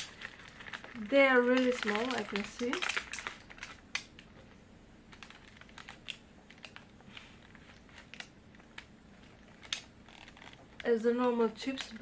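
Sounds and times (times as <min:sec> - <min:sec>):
foil wrapper crinkling: 0:00.0 - 0:04.3, 0:05.1 - 0:12.0.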